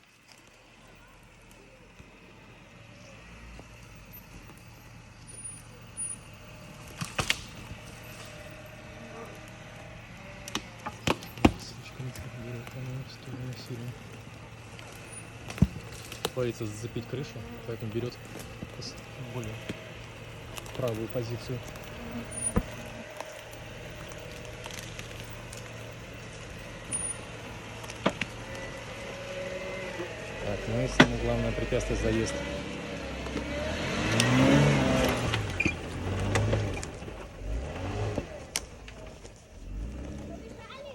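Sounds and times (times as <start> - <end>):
motor vehicle humming: 0.0 - 40.9.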